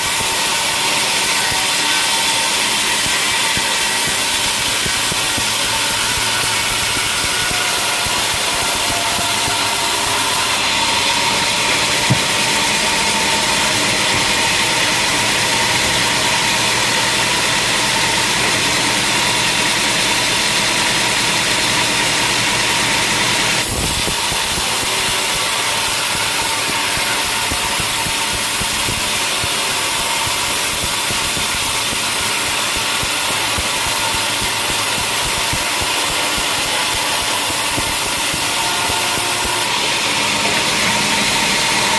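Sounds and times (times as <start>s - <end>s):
sawmill machinery droning: 0.0s - 41.9s.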